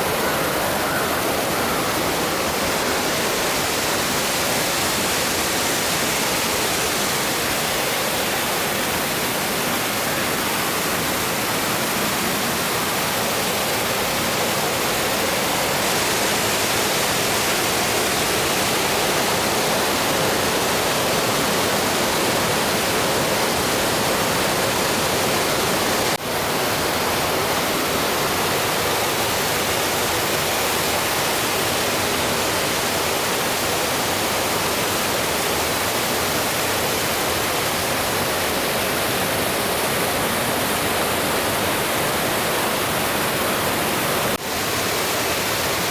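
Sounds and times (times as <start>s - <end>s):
water rushing over waterfall: 0.0s - 45.9s.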